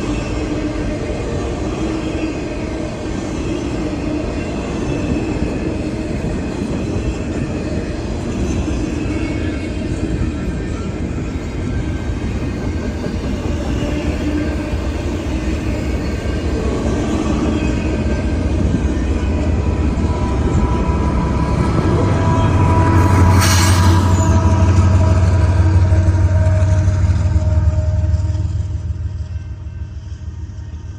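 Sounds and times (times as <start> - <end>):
faint high wheel squeals: 0.0 - 30.9
freight train wheels rumbling: 0.0 - 30.9.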